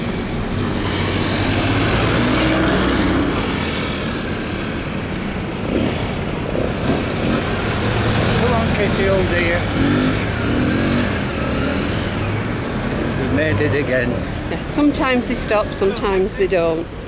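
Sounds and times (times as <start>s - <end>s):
cars driving past: 0.0s - 17.0s.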